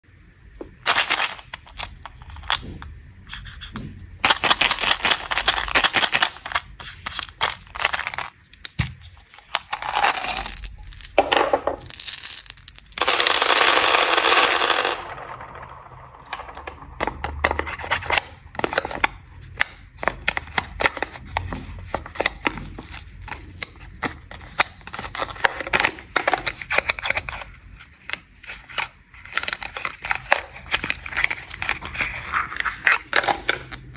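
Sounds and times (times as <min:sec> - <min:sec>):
plastic wrappers crinkling and tearing: 0:00.8 - 0:03.4, 0:04.2 - 0:11.2, 0:11.8 - 0:33.9.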